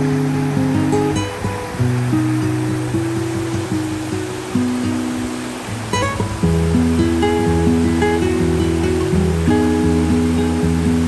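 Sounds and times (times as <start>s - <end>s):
flowing river water: 0.0s - 11.0s
gentle instrumental music: 0.0s - 11.0s.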